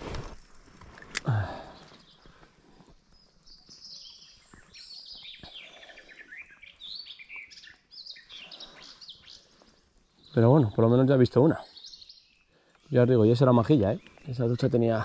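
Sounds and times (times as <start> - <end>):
small birds chirping and trilling: 1.2 - 15.0.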